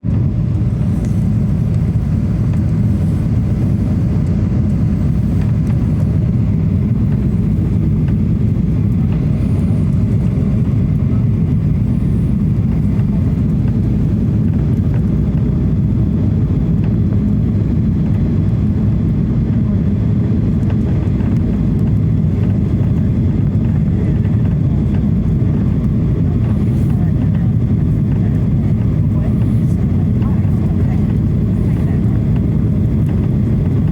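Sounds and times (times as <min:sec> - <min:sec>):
airliner engine roar: 0:00.0 - 0:33.9.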